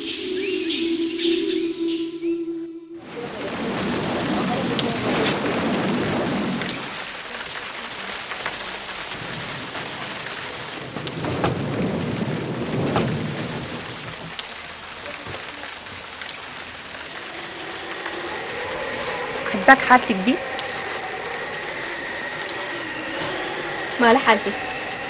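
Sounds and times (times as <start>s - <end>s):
steady rain: 3.0s - 25.0s
thunder rumbles: 3.0s - 25.0s.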